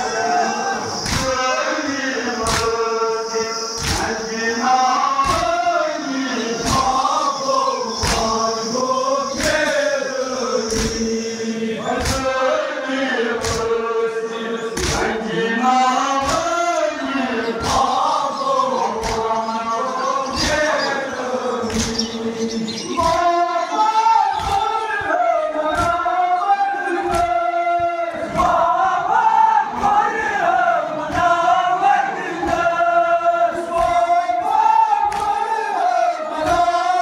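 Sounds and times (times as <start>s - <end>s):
men chanting in unison: 0.0s - 37.0s.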